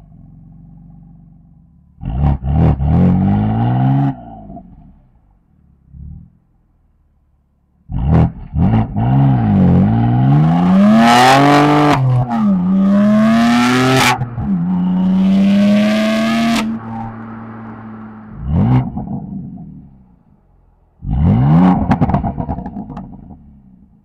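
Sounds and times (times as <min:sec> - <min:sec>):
car exhaust accelerating: 0:00.0 - 0:24.0.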